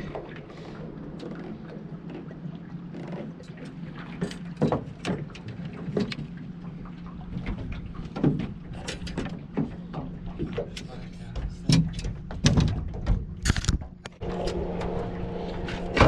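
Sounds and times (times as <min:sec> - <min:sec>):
knocks and clatter on a boat: 0:00.0 - 0:16.0.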